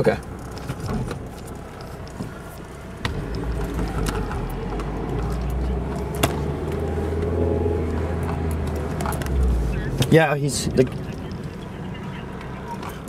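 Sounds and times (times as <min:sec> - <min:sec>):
car engine from inside cabin: 0:00.0 - 0:13.0
road rumble: 0:00.0 - 0:13.0.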